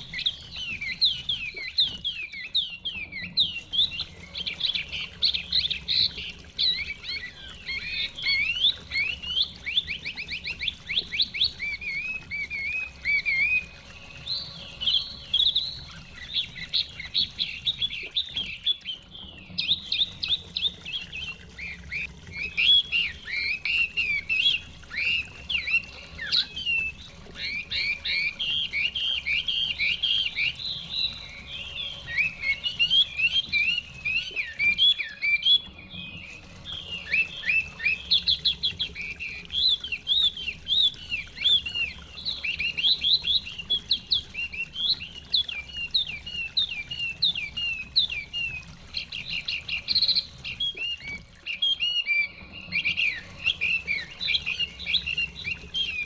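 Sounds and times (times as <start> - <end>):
bird singing whistled phrases: 0.0 - 56.0.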